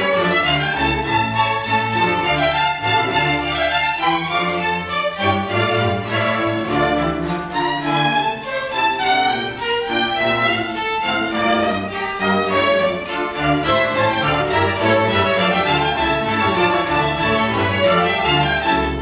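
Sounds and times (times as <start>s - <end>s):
string orchestra playing: 0.0s - 19.0s.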